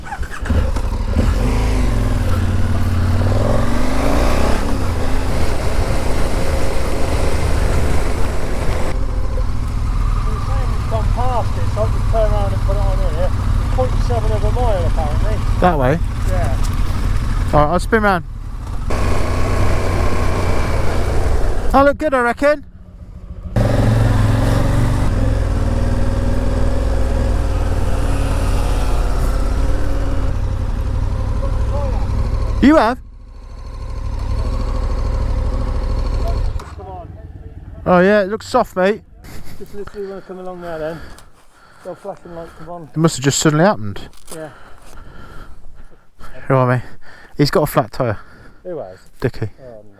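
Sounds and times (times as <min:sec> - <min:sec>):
motorcycle engine revving: 0:00.0 - 0:42.6.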